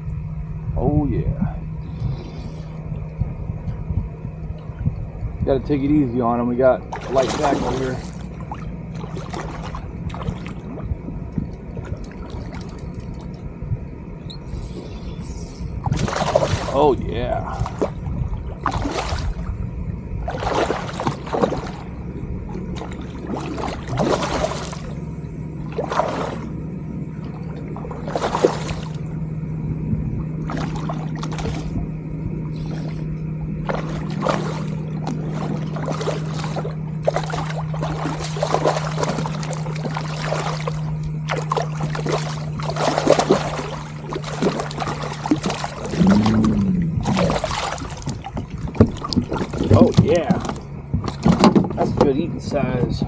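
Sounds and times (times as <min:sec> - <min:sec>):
steady low hum: 0:00.0 - 0:53.0
water splashing and sloshing: 0:01.4 - 0:53.0.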